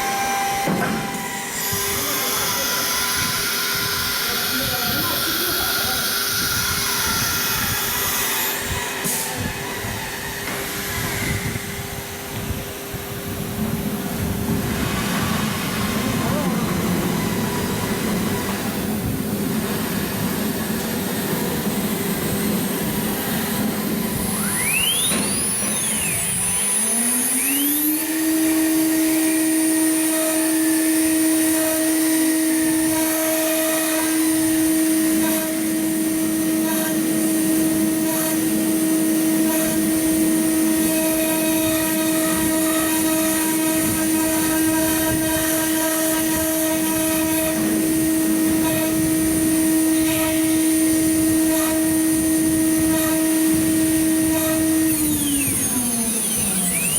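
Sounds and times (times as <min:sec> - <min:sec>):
constant machine noise: 0:00.0 - 0:56.9
router spindle whine: 0:00.0 - 0:56.9.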